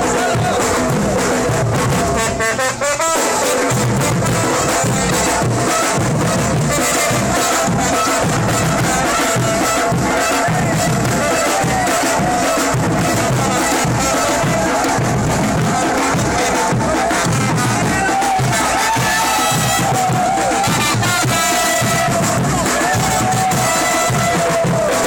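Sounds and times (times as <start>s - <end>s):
loud music with steady beat: 0.0s - 25.0s.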